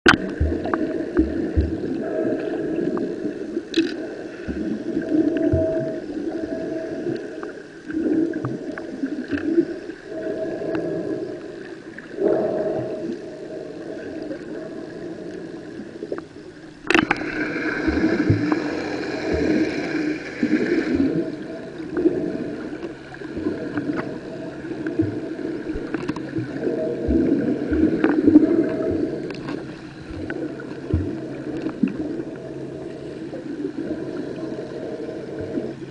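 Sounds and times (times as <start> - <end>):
water sloshing underwater: 0.0 - 35.9.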